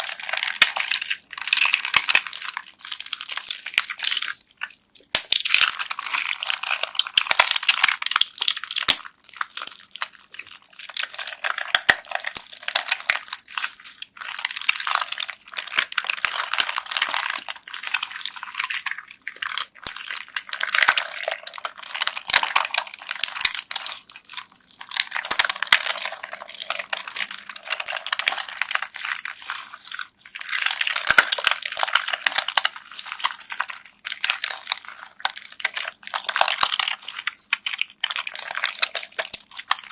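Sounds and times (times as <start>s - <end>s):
bead-filled slime crackling: 0.0s - 39.9s.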